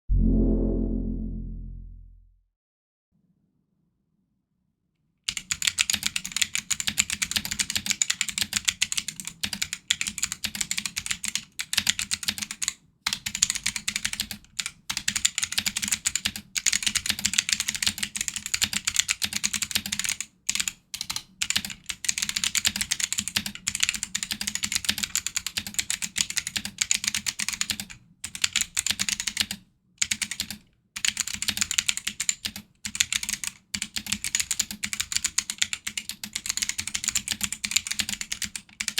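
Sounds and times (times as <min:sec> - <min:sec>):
fast typing on clicky keyboard: 0:05.3 - 0:38.9.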